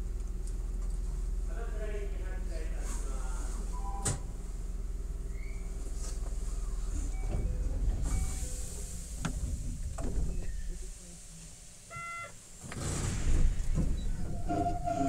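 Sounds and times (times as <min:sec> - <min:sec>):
train low rumble and hiss: 0:00.0 - 0:15.0.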